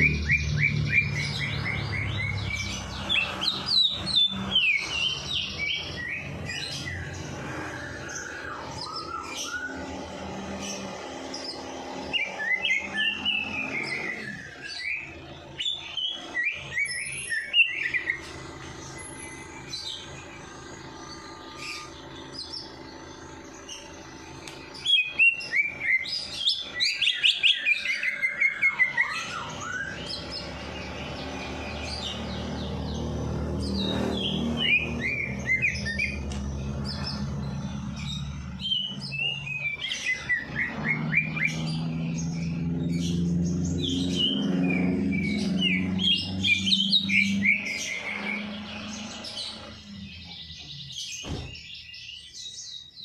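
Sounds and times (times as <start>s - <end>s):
songbirds chirping and twittering: 0.0s - 53.0s.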